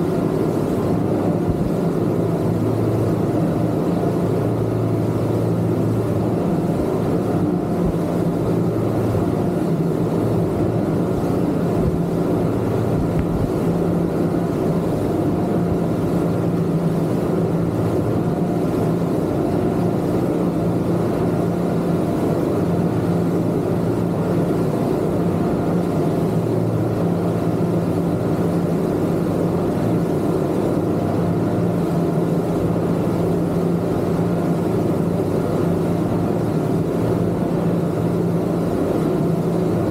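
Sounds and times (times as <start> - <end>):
outboard motors droning: 0.0 - 39.9.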